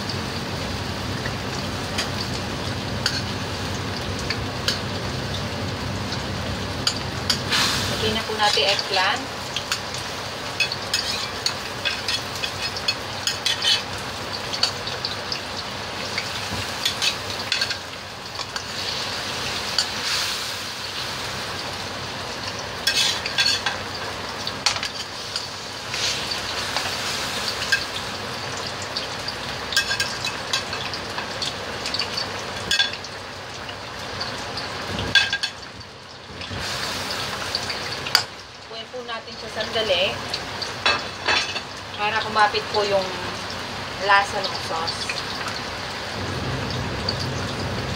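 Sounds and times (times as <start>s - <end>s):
sauce sizzling in a wok: 0.0s - 47.9s.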